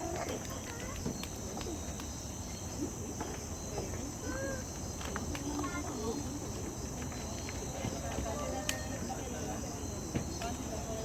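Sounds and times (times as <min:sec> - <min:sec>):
crickets chirping: 0:00.0 - 0:11.0
faint voices: 0:00.0 - 0:11.0.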